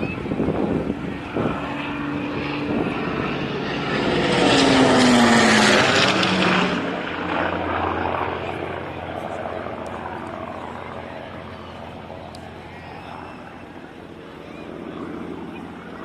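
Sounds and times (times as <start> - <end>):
propeller plane passing overhead: 0.0 - 16.0.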